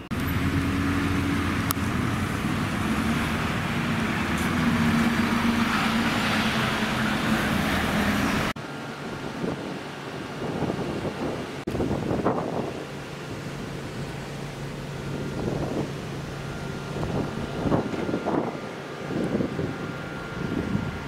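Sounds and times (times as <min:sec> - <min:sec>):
bus engine humming: 0:00.0 - 0:21.0
tyre and traffic noise: 0:00.0 - 0:21.0.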